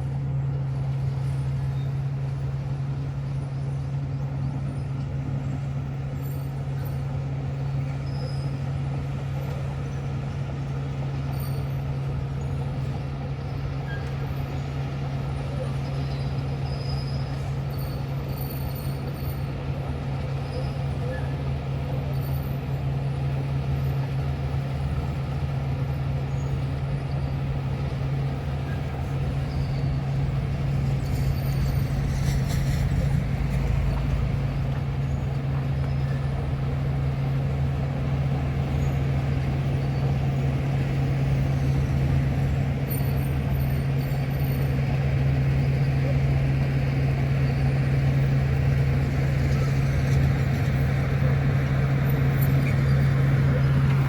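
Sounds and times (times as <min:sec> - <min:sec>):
heavy diesel machinery engine drone: 0:00.0 - 0:54.0.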